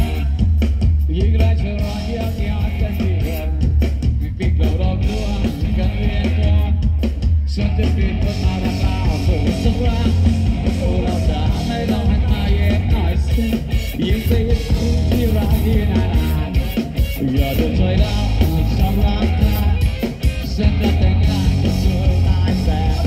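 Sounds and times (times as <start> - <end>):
live rock band: 0.0 - 23.0
man singing: 0.0 - 23.0
strong bass: 0.0 - 23.0.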